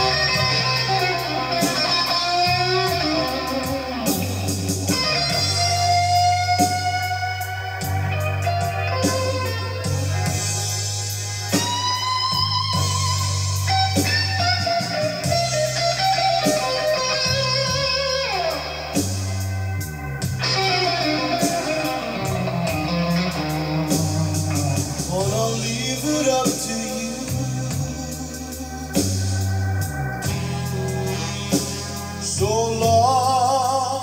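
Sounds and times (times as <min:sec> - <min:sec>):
bass and drums: 0:00.0 - 0:34.0
electric guitar solo: 0:00.0 - 0:34.0.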